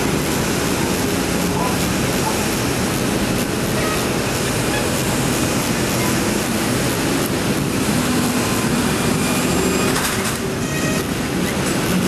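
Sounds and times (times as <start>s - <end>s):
heavy vehicles rumbling: 0.0s - 12.0s.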